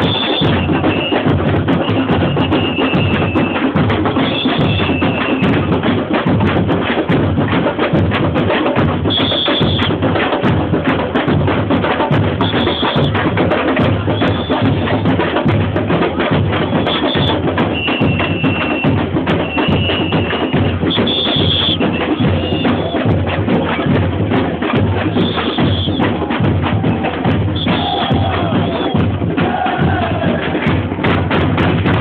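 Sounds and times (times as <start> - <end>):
samba percussion band: 0.0 - 32.0.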